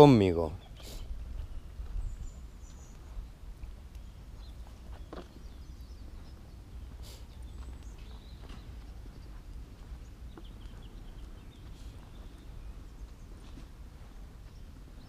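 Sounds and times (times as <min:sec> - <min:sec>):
wind rumble on microphone: 0:01.0 - 0:15.0
soft footsteps: 0:01.1 - 0:15.0.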